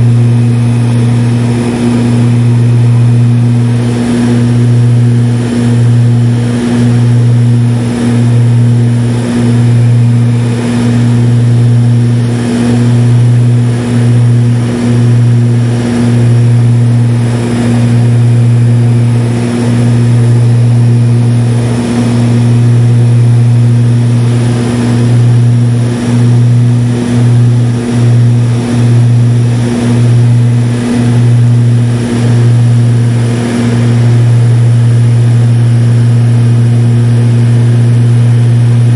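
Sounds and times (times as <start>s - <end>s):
propeller aircraft engine drone: 0.0s - 38.9s.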